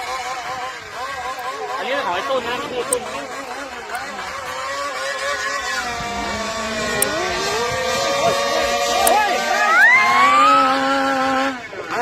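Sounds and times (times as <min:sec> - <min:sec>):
small two-stroke boat engine buzzing: 0:00.0 - 0:12.0.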